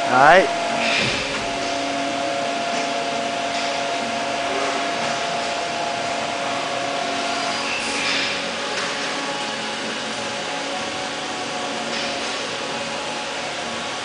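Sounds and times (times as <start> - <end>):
low tonal hum: 0.0 - 14.0
welding station hiss: 0.0 - 14.0.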